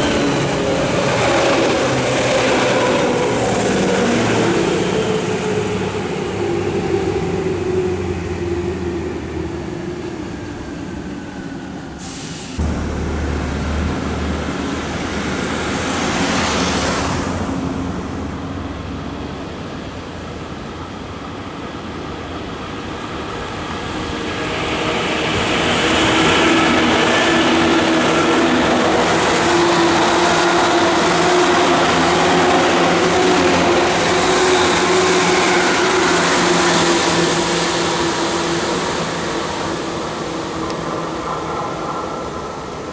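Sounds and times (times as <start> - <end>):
wheel and rail noise: 0.0 - 42.9.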